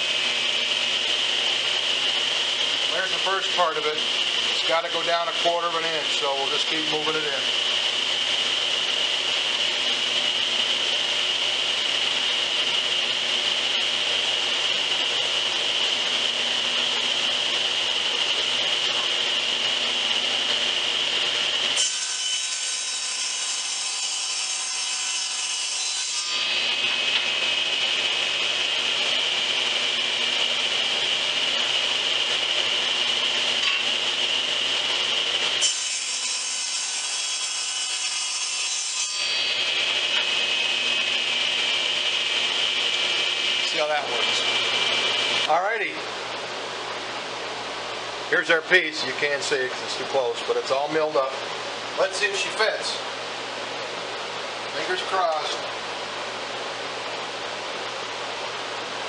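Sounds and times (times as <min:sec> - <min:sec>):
table saw whining: 0:00.0 - 0:59.0.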